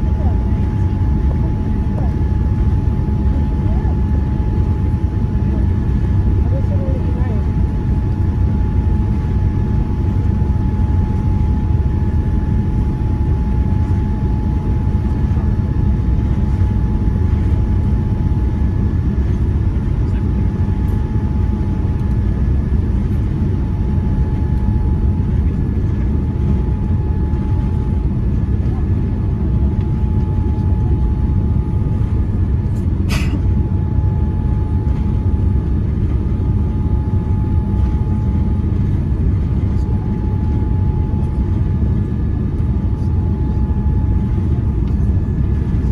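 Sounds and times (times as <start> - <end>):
airliner cabin engine rumble: 0.0 - 45.9
thin steady whine: 0.0 - 45.9.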